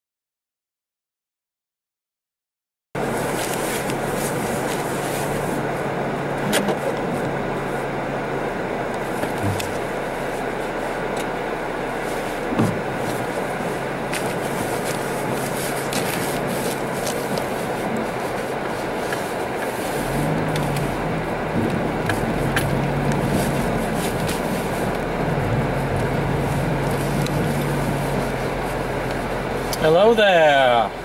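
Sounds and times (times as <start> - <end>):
engine hum: 3.0 - 31.0
tyre and road rush: 3.0 - 31.0.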